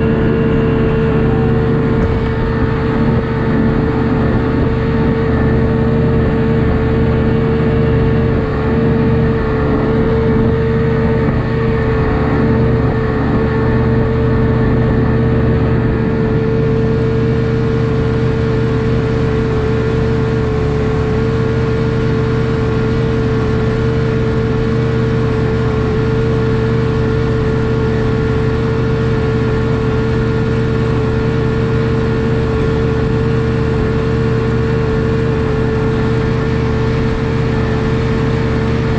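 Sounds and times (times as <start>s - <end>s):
outboard motor running: 0.0s - 38.9s
steady engine whine: 0.0s - 38.9s.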